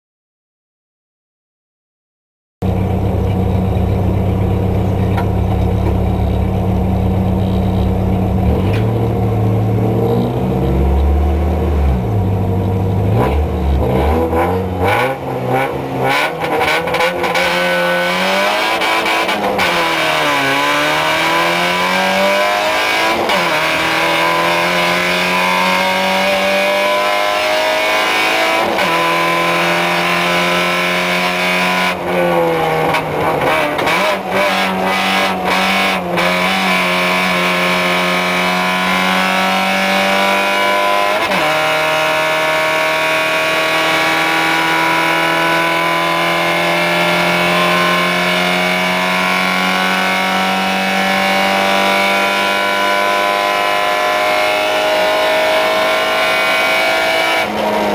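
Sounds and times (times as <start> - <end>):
car engine revving and accelerating: 3.0 - 57.9.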